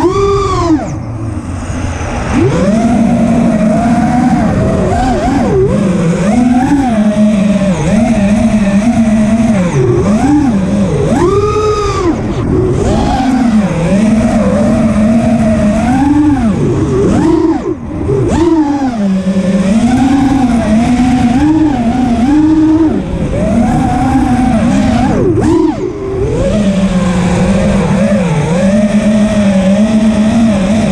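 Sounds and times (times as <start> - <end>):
quadcopter motors whining: 0.0 - 30.9.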